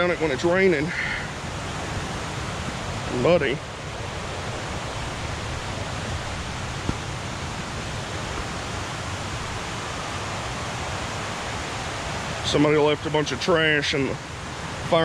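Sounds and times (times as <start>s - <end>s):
creek roaring: 0.0s - 15.0s.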